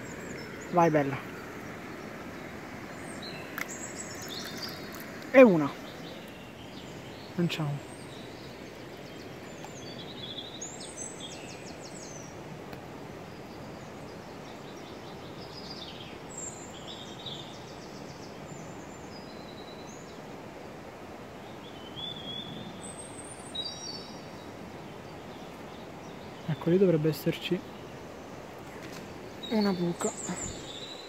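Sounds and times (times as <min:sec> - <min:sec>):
river water flowing: 0:00.0 - 0:31.0
small birds chirping: 0:00.0 - 0:31.0.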